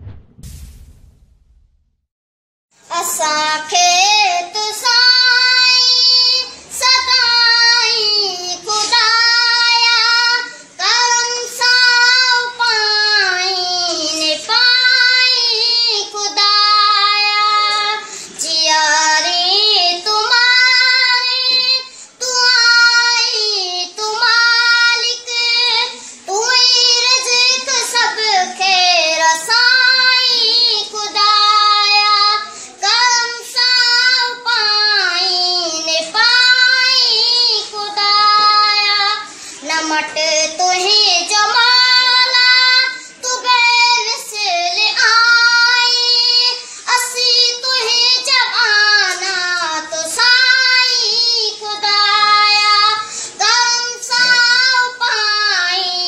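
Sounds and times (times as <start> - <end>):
boy singing solo: 2.9 - 56.0.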